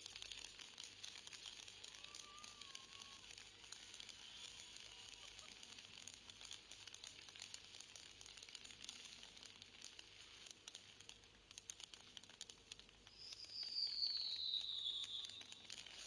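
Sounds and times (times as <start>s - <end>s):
fireworks crackling pops: 0.0s - 16.0s
steady hiss: 0.0s - 16.0s.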